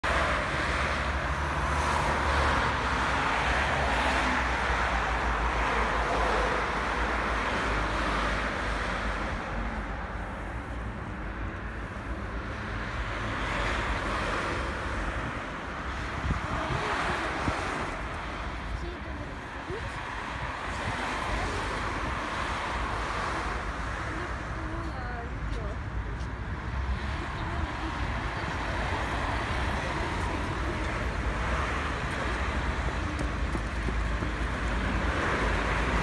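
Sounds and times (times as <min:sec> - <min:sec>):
road traffic: 0:00.0 - 0:36.0.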